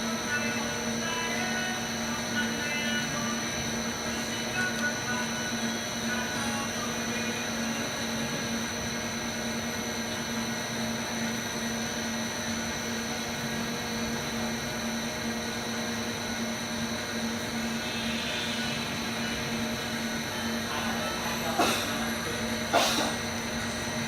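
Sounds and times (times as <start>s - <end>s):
lathe machine hum with high whine: 0.0s - 24.0s.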